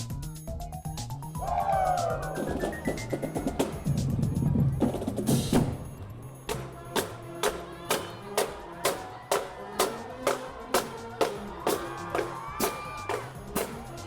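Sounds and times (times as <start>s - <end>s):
steady drum beat: 0.0s - 14.0s
held instrument notes: 1.3s - 14.0s.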